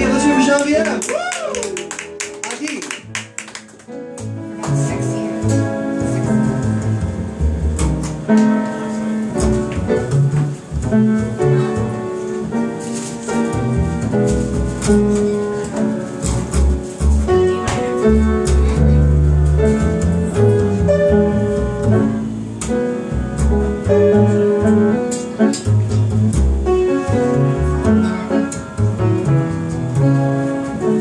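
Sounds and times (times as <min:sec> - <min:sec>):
double bass: 0:00.0 - 0:00.8, 0:03.9 - 0:31.0
jazz piano: 0:00.0 - 0:31.0.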